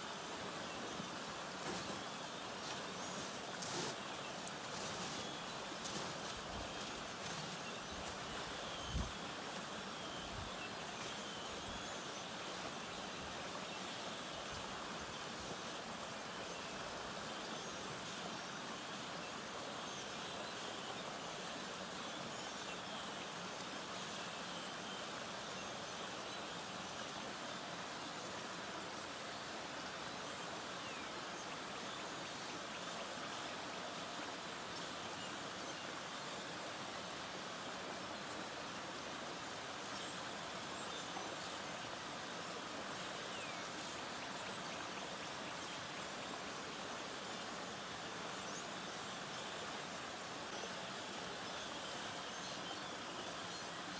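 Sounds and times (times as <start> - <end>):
stream rushing and splashing: 0.0 - 53.9.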